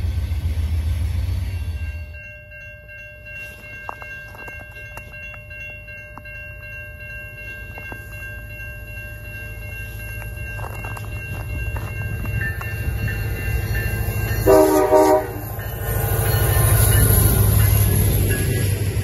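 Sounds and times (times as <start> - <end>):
freight train rumble: 0.0 - 19.0
railway crossing bell ringing: 1.3 - 19.0.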